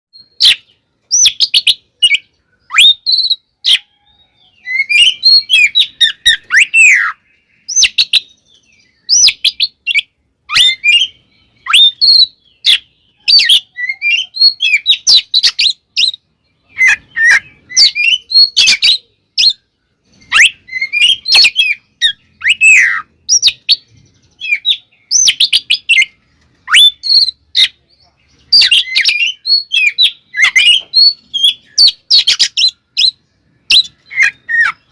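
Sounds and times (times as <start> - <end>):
songbird singing whistles and clicks: 0.2 - 27.8, 28.5 - 34.9.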